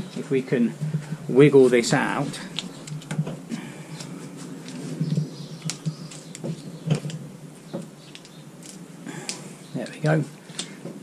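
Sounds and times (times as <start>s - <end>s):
fabric and padding rustling: 0.0s - 9.0s.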